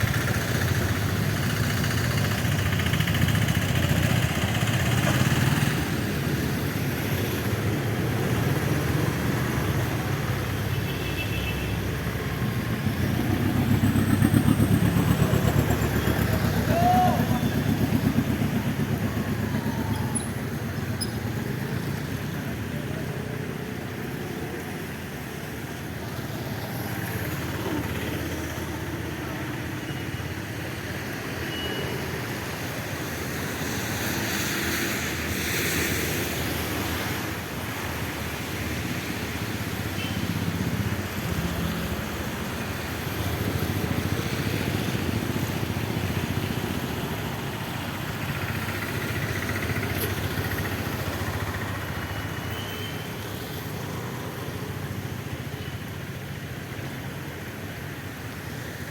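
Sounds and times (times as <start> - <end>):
road traffic passing: 0.0 - 58.9.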